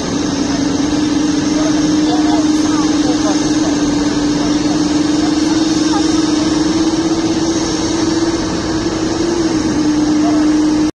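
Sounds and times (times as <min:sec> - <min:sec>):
heavy machinery engines droning: 0:00.0 - 0:10.9.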